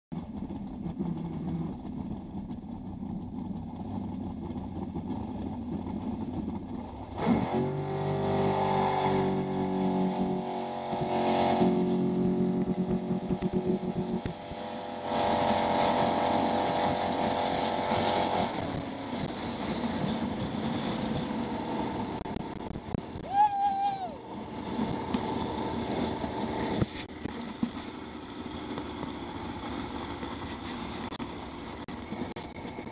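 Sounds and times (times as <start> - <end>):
boat engine revving: 0.2 - 32.9.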